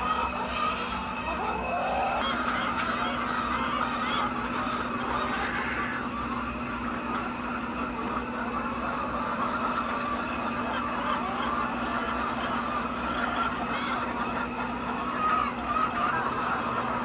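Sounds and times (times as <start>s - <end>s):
hens chattering: 0.0s - 17.0s
steady low hum: 0.0s - 17.0s.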